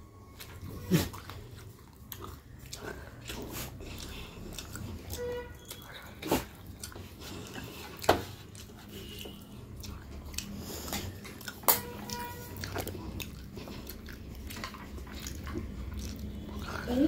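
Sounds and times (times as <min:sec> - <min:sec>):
person chewing: 0:00.2 - 0:17.0.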